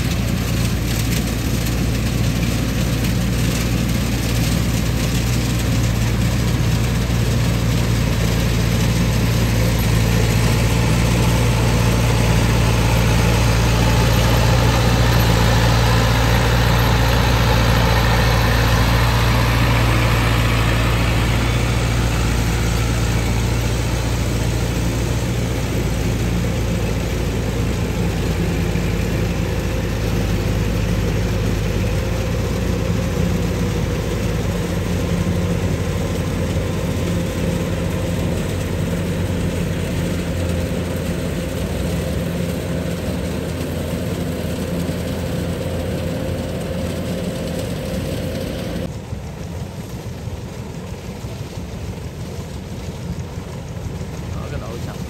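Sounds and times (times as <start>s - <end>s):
combine harvester engine humming: 0.0s - 55.0s.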